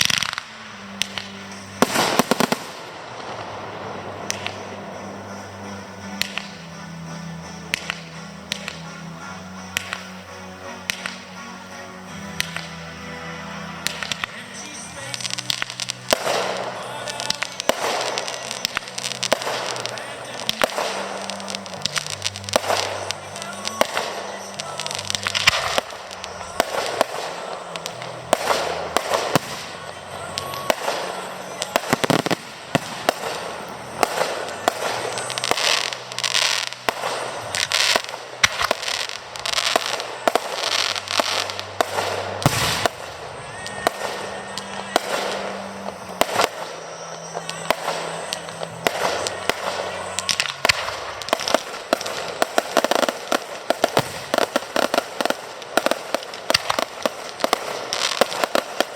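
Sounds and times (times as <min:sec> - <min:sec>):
fireworks bangs: 0:00.0 - 0:58.9
fireworks crackling: 0:00.0 - 0:58.9.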